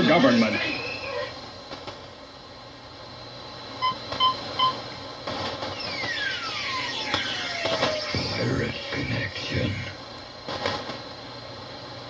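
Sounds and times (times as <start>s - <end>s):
static hiss: 0.0s - 12.0s.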